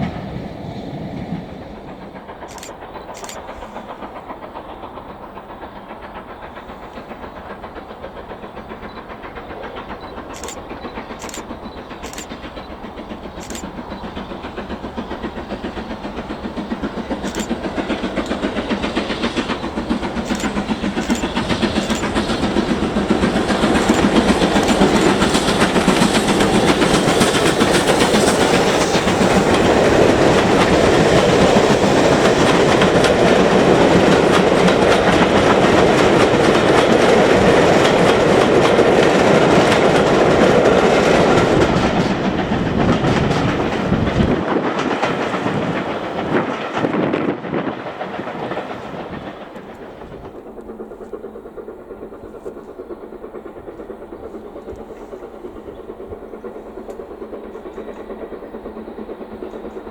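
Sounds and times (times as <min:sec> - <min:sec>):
steam train running: 0:00.0 - 0:59.9.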